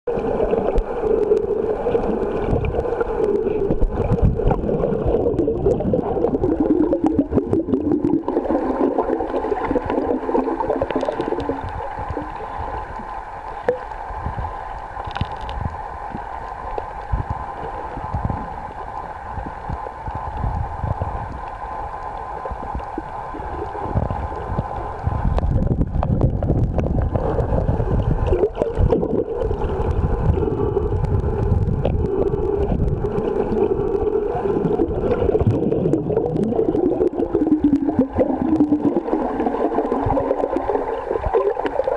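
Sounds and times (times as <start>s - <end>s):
underwater water churning and gurgling: 0.1s - 41.9s.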